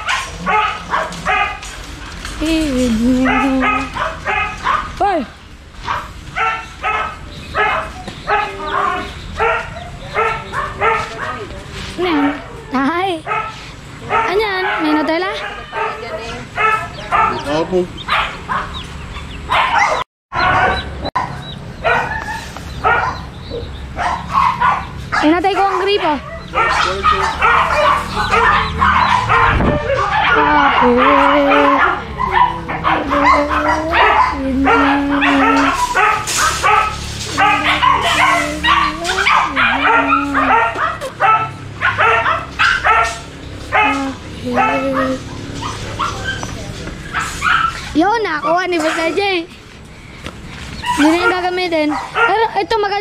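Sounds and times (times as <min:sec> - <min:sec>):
dogs barking and yipping: 0:00.0 - 0:53.0.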